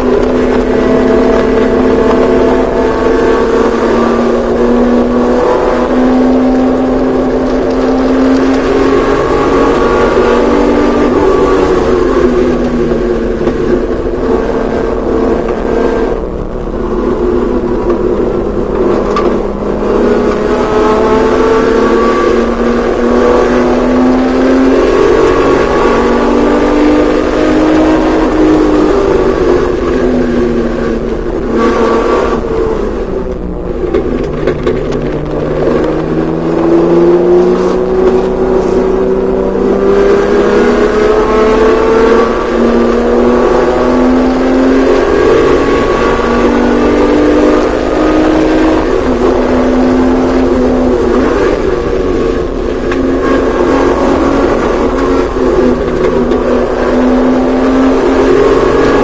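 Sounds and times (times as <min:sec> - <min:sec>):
racing car engine accelerating: 0:00.0 - 0:59.0.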